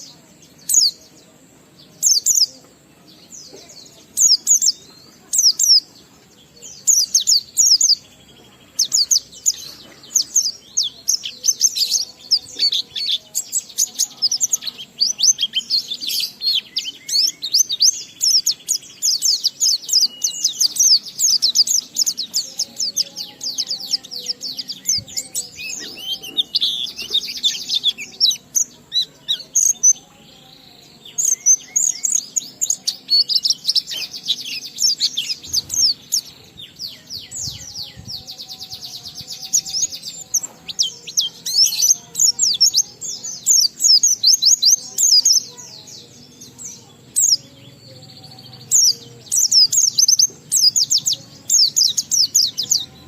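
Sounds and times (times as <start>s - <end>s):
bird twittering chirps and trills: 0.0s - 53.0s.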